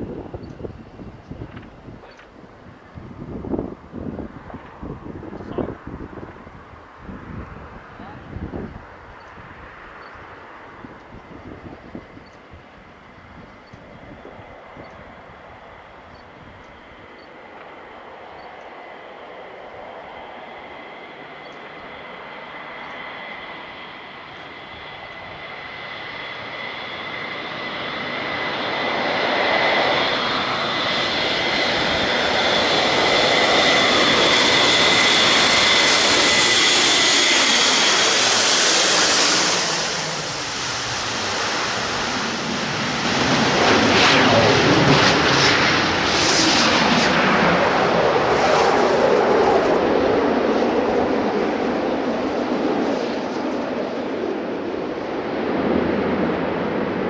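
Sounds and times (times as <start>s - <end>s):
turboprop aircraft engines: 0.0s - 57.0s.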